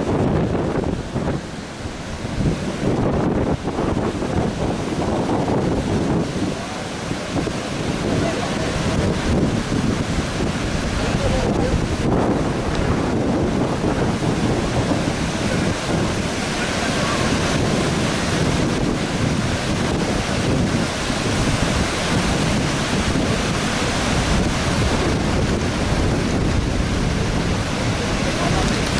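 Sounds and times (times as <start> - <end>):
storm surf breaking on beach: 0.0 - 28.9
wind buffeting microphone: 0.0 - 28.9.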